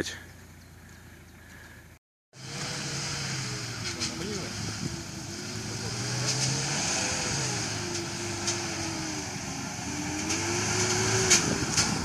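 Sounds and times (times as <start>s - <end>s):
suv engine revving: 2.3s - 12.0s.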